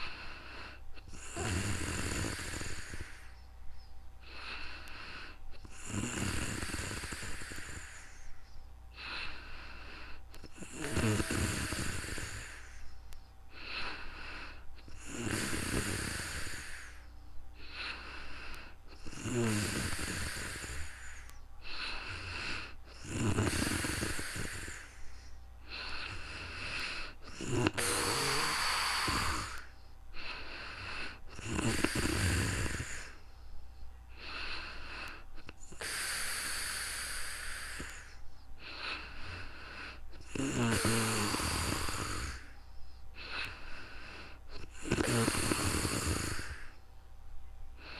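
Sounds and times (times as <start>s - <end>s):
person snoring: 0.0s - 3.4s, 4.2s - 8.4s, 9.0s - 12.9s, 13.5s - 33.2s, 34.1s - 42.6s, 43.2s - 46.8s
soft breathing: 0.0s - 47.9s.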